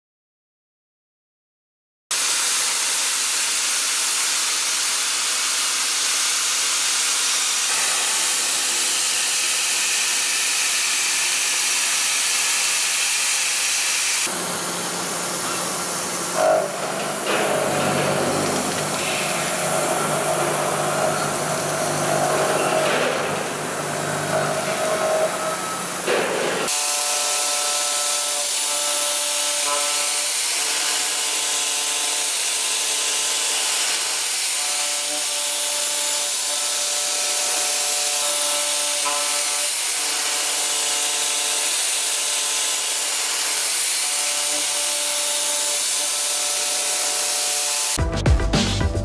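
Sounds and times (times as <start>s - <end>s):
milling machine cutting metal: 2.1s - 48.0s.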